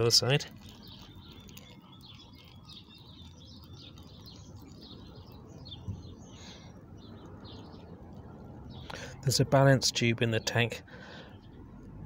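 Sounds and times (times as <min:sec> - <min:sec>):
water trickling onto gravel: 0:00.0 - 0:10.0
birds chirping and singing: 0:00.0 - 0:11.8.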